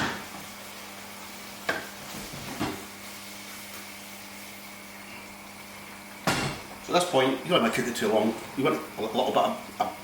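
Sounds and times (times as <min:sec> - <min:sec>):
sauce sizzling in a pan: 0:00.0 - 0:10.0.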